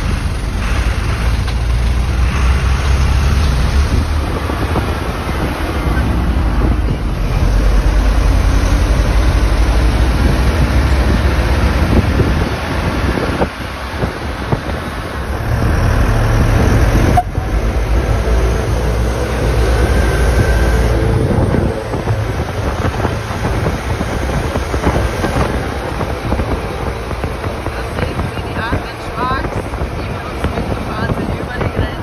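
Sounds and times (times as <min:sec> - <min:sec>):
diesel engines rumbling: 0:00.0 - 0:32.0
trucks driving past: 0:00.0 - 0:32.0.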